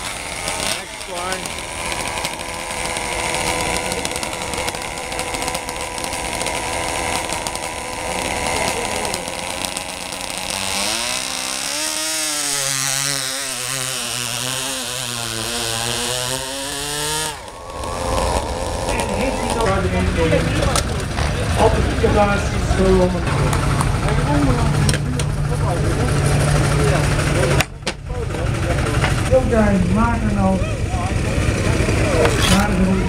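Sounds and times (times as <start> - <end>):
small model engine revving: 0.0 - 27.7, 30.7 - 33.0.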